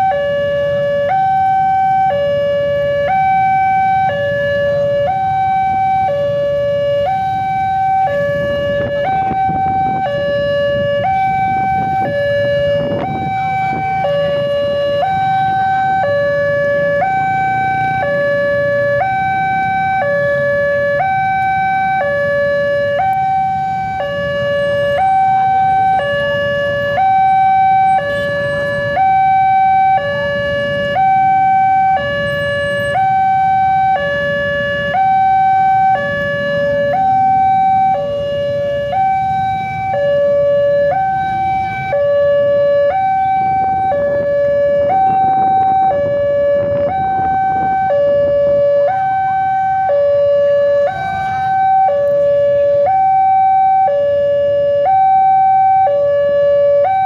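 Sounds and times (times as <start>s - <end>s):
electronic two-tone crossing alarm: 0.0s - 57.0s
road traffic rumble: 0.0s - 57.0s.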